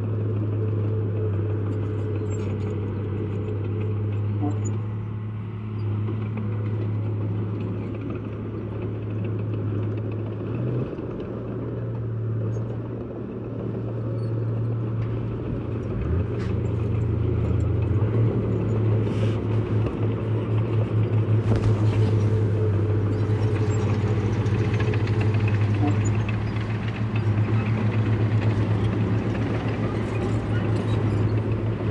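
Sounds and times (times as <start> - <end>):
heavy diesel engine rumbling: 0.0 - 31.9.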